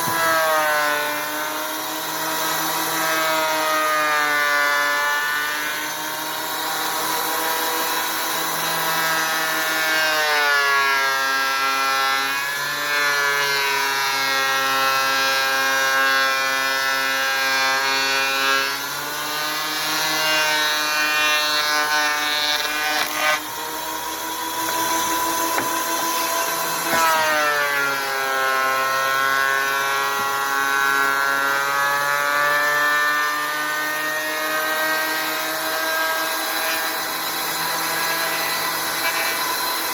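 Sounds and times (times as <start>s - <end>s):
thickness planer motor whine: 0.0s - 39.9s.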